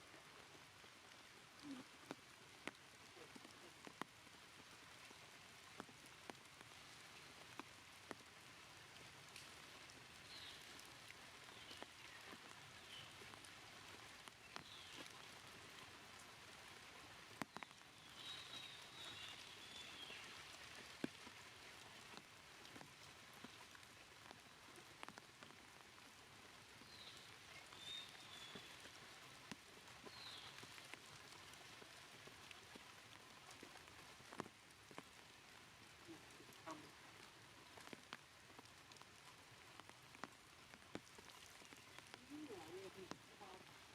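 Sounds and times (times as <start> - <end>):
light rain pattering: 0.0 - 43.9
sharp drips and ticks: 0.0 - 43.9.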